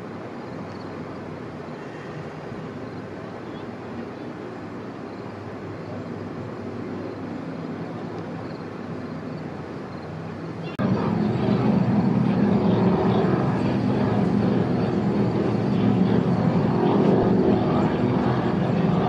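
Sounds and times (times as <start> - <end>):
powerboat engines droning: 0.0 - 19.0.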